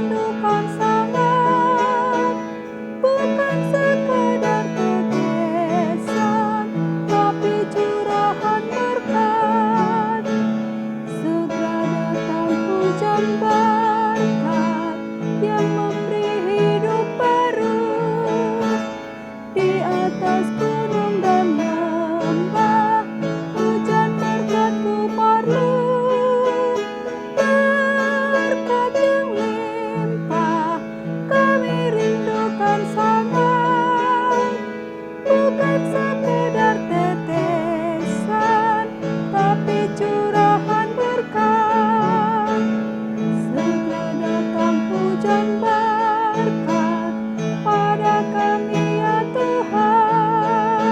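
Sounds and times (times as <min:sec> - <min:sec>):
piano accompaniment: 0:00.0 - 0:50.9
woman singing a hymn: 0:00.0 - 0:50.9.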